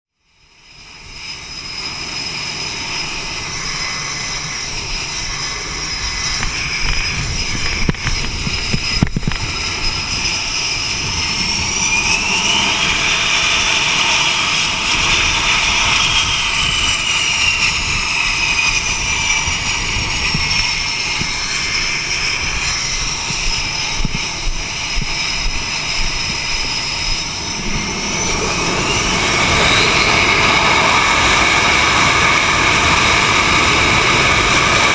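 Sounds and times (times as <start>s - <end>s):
jet engines running: 0.2s - 34.9s.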